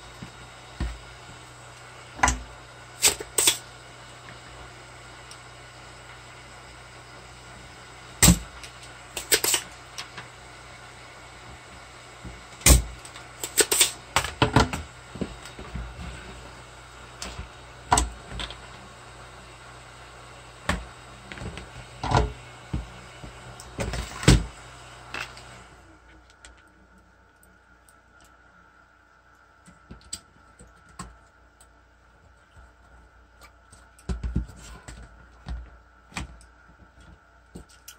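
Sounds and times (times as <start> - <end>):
steady hiss and hum: 0.0 - 37.9.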